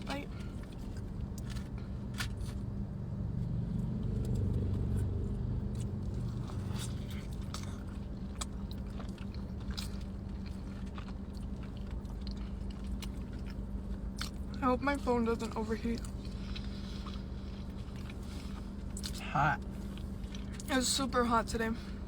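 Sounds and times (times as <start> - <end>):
low hum: 0.0 - 22.0
person chewing food: 0.4 - 2.8, 3.4 - 14.6, 16.0 - 20.7.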